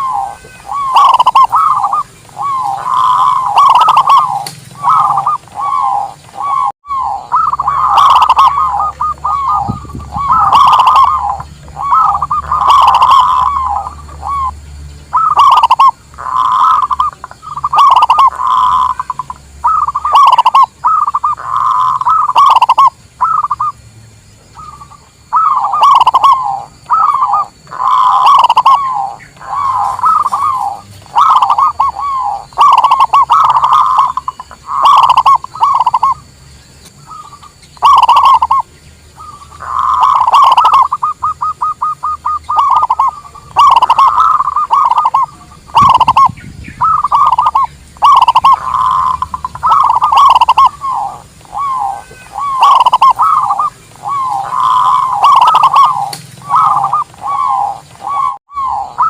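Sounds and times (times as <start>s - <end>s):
dove cooing: 0.0s - 23.8s, 24.5s - 36.3s, 37.0s - 59.0s.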